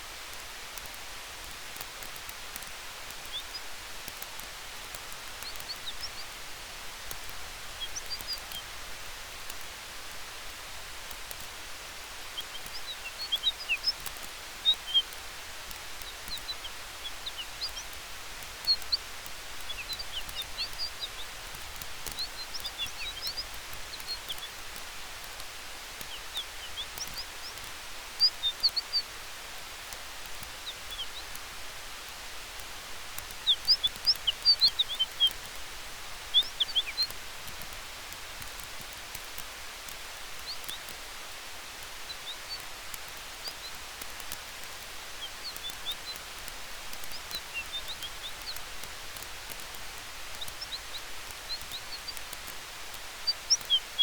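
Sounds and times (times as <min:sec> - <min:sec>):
campfire crackling and popping: 0:00.0 - 0:54.0
wind in the trees: 0:00.0 - 0:54.0
small bird chirping: 0:01.8 - 0:10.2, 0:11.1 - 0:54.0.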